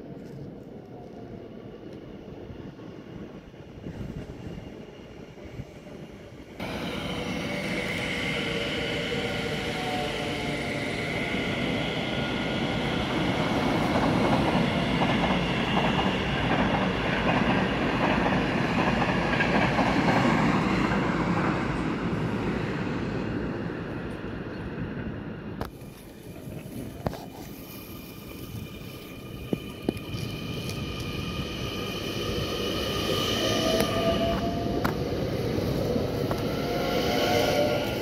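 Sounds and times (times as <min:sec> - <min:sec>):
passenger train passing: 0:00.0 - 0:38.0.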